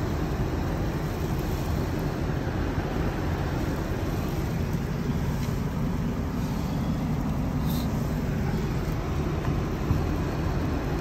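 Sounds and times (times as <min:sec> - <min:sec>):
car interior rumble and hiss: 0:00.0 - 0:11.0.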